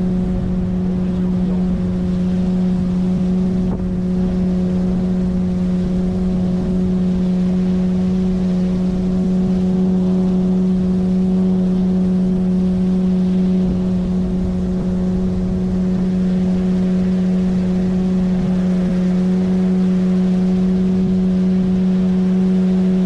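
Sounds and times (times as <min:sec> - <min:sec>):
outboard motor humming: 0:00.0 - 0:23.0
water noise: 0:00.0 - 0:23.0
wind noise: 0:00.0 - 0:23.0.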